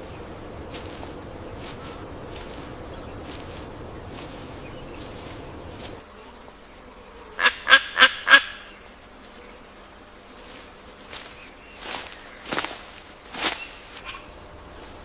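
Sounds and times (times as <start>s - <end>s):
soft forest ambience: 0.0s - 15.0s.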